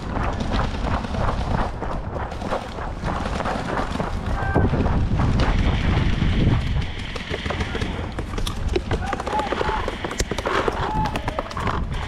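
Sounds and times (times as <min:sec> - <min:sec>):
running footsteps: 0:00.0 - 0:12.0
wind rumble on microphone: 0:00.0 - 0:12.0.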